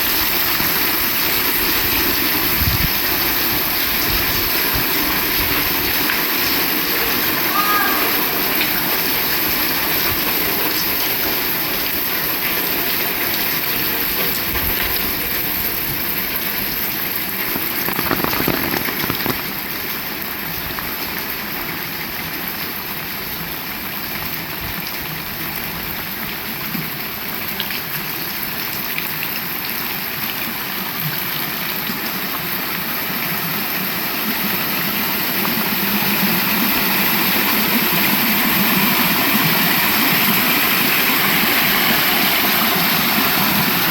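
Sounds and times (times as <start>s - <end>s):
heavy rain: 0.0s - 43.9s.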